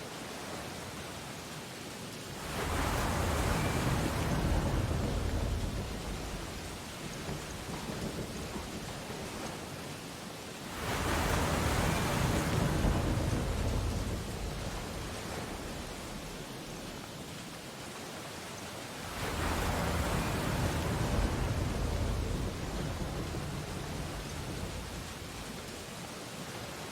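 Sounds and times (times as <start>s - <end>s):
ocean waves breaking on beach: 0.0s - 26.9s.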